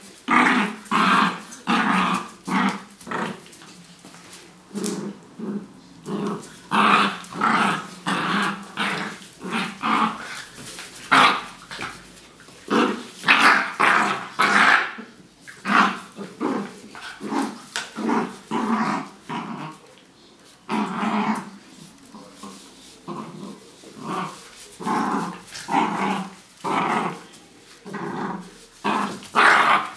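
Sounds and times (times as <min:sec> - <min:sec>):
small dogs play-growling: 0:00.2 - 0:29.9.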